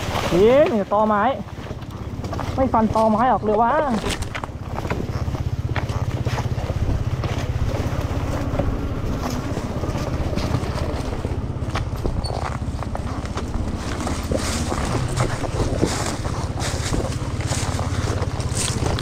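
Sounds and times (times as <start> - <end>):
electric motorcycle rumble: 0.0 - 19.0.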